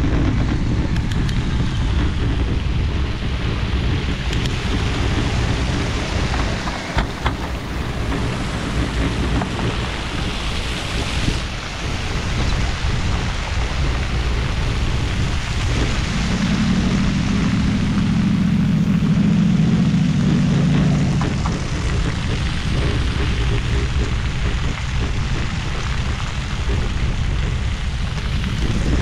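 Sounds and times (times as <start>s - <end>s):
low hum: 0.0s - 29.0s
tyres rumbling over brick pavers: 0.0s - 29.0s
wind rushing over microphone: 0.0s - 29.0s.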